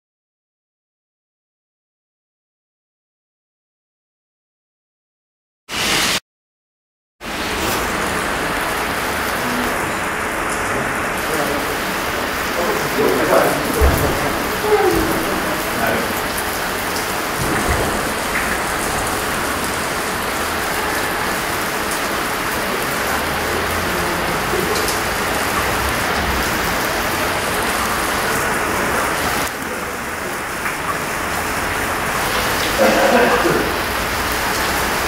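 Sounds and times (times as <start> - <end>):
heavy rain on paved street: 5.7 - 6.2, 7.2 - 35.0.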